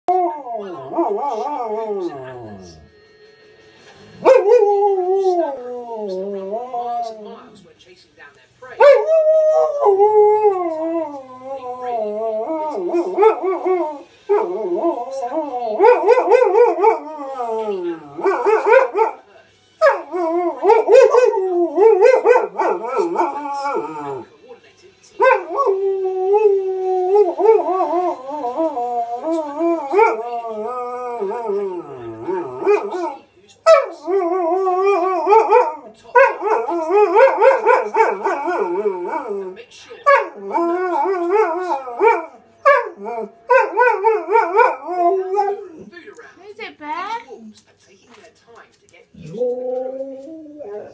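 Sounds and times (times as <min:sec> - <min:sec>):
dog howling: 0:00.1 - 0:02.9, 0:04.2 - 0:07.3, 0:08.8 - 0:19.2, 0:19.8 - 0:24.2, 0:25.2 - 0:45.9, 0:49.2 - 0:50.9.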